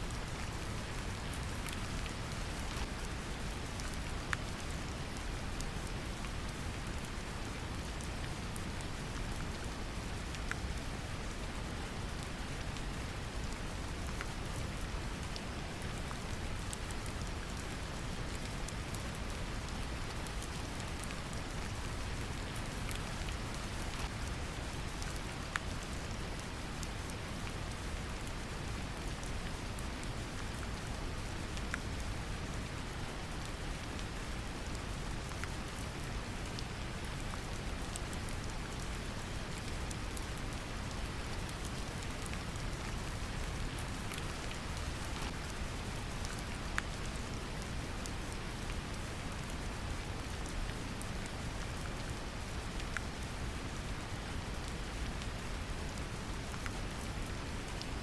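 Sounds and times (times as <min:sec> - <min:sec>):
gentle rain: 0:00.0 - 0:58.0
raindrops pattering on a surface: 0:00.0 - 0:58.0.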